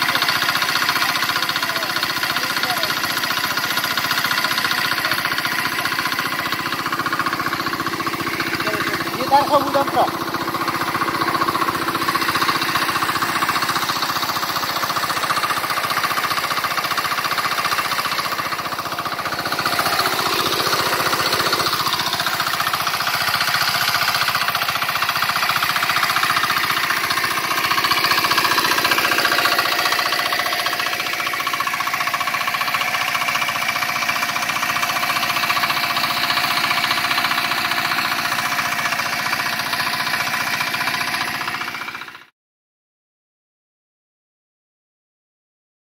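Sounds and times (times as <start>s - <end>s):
diesel engine clattering: 0.0s - 42.3s.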